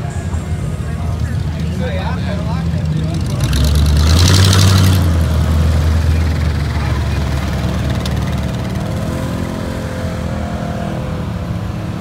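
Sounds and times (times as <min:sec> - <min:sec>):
off-road vehicle engines humming: 0:00.0 - 0:12.0.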